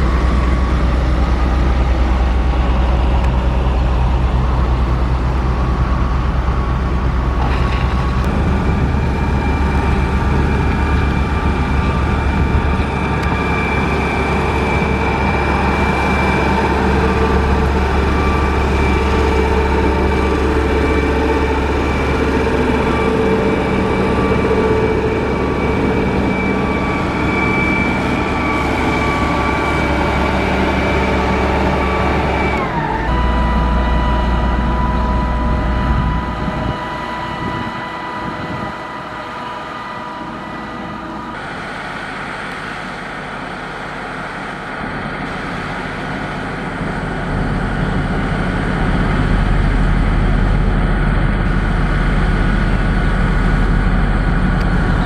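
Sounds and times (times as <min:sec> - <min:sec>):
heavy diesel engine running: 0:00.0 - 0:55.0
high mechanical whine: 0:00.0 - 0:55.0.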